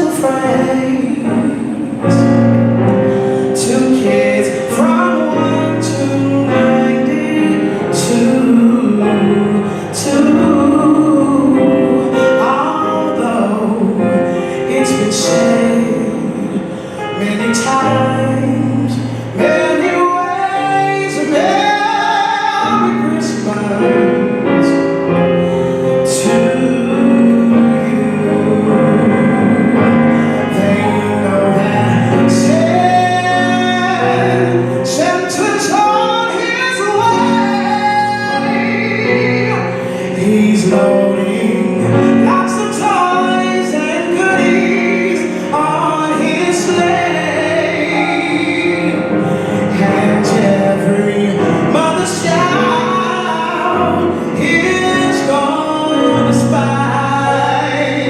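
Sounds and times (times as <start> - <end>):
singing voices: 0.0 - 58.0.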